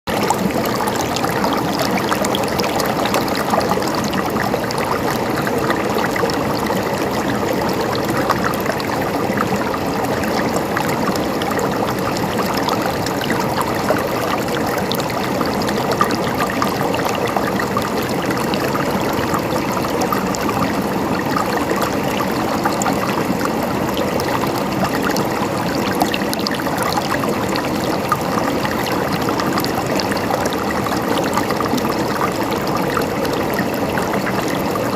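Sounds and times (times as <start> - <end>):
river water flowing: 0.1 - 34.9
water splashing and gurgling: 0.1 - 34.9.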